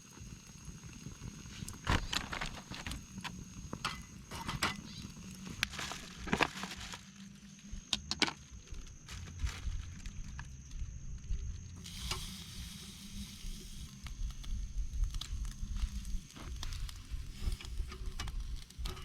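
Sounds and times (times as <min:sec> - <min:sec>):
campfire crackling and popping: 0:00.0 - 0:19.0
soft hiss: 0:00.0 - 0:19.0.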